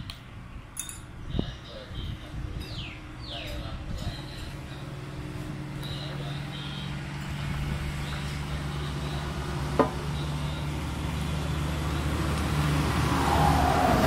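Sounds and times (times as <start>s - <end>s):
vehicle engine passing: 2.0s - 14.0s.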